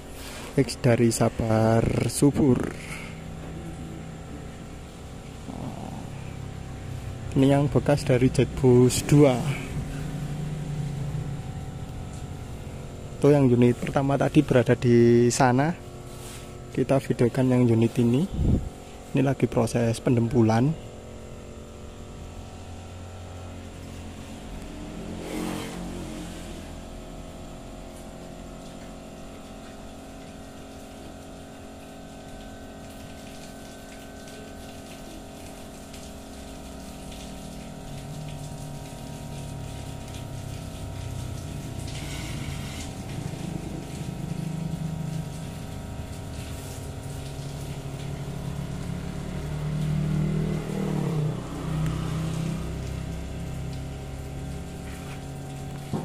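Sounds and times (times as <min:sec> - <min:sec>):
machine droning: 0:00.0 - 0:56.0.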